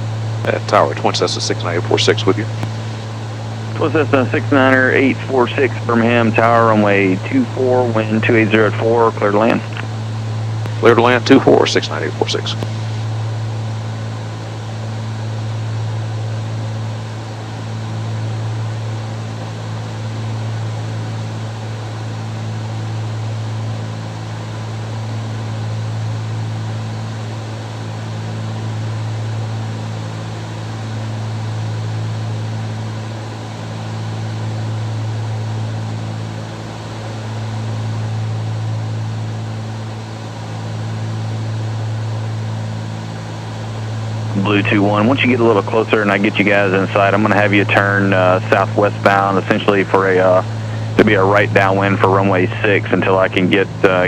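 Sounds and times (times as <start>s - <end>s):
propeller plane engines droning: 0.0s - 54.0s.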